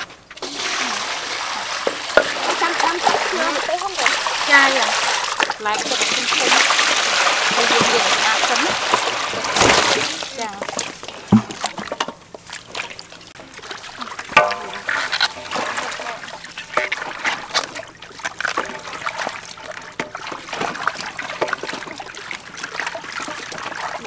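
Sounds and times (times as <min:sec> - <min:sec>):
water splashing in metal basins: 0:00.0 - 0:24.0.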